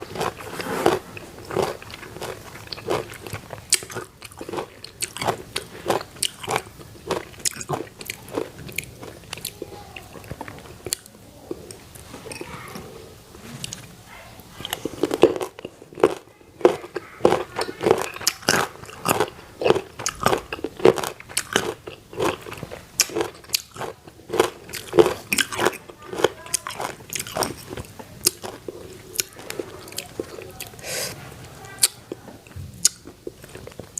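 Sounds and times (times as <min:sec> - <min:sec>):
crunching fruit bites: 0:00.0 - 0:11.6, 0:14.6 - 0:30.8
chewing: 0:00.0 - 0:33.9.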